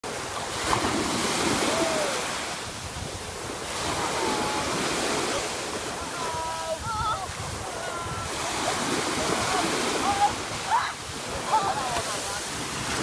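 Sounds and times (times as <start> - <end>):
small waves breaking: 0.0 - 13.0.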